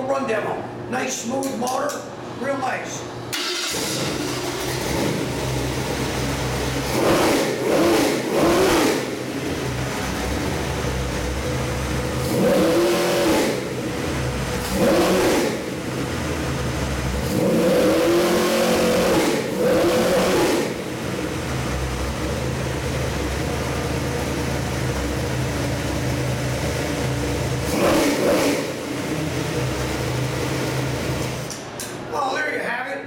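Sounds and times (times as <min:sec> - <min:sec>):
engine idling and revving: 0:03.3 - 0:31.6.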